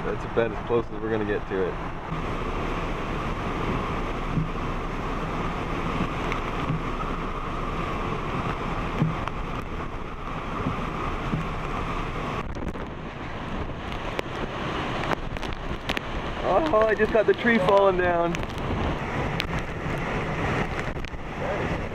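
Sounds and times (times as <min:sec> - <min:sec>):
strong wind through palm trees: 0:00.0 - 0:21.9
wind buffeting microphone: 0:00.0 - 0:21.9.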